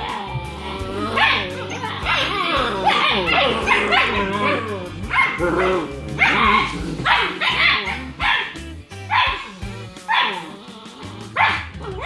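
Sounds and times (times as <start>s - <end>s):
background music: 0.0s - 12.0s
puppies yipping and barking: 0.0s - 12.0s.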